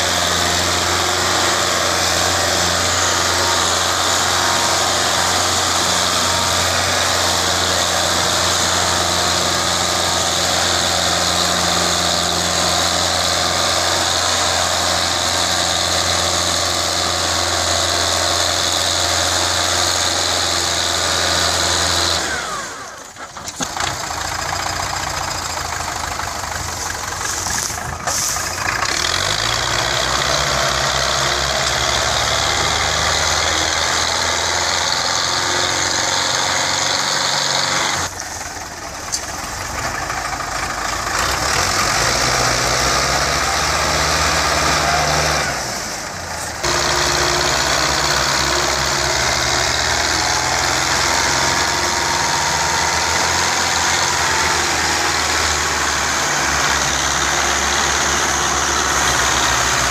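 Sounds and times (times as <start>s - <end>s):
tractor diesel engines labouring: 0.0s - 59.9s.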